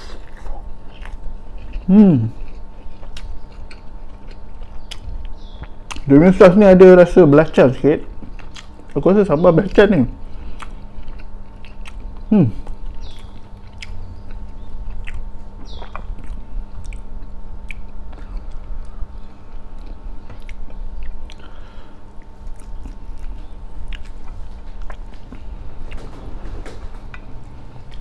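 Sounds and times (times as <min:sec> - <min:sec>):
person chewing food: 0:00.0 - 0:06.1, 0:08.1 - 0:09.0, 0:10.2 - 0:26.0, 0:27.1 - 0:28.0.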